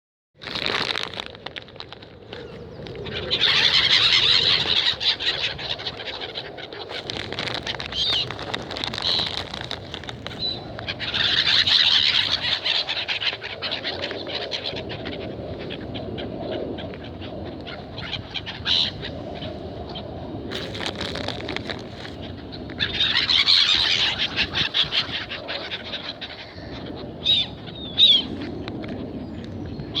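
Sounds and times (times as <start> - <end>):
seagulls calling and squawking: 2.4 - 20.1, 20.8 - 30.0.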